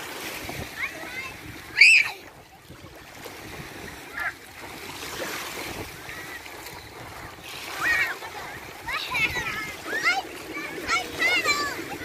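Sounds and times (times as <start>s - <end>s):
small waves washing: 0.0s - 12.0s
wind buffeting microphone: 0.0s - 12.0s.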